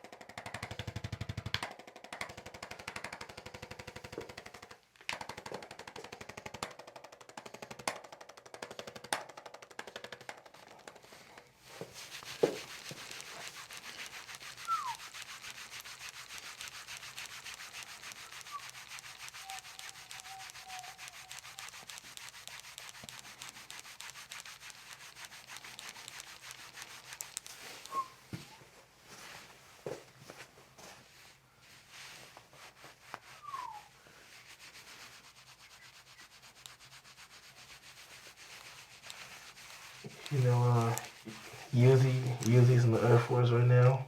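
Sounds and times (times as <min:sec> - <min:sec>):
dry rubbing and scratching: 0:00.6 - 0:44.0.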